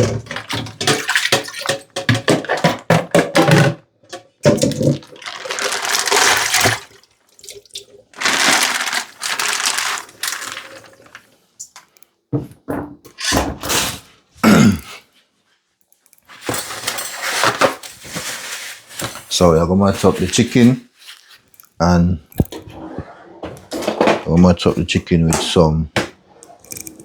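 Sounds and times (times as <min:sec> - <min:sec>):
clattering and handling noises: 0:00.0 - 0:27.0.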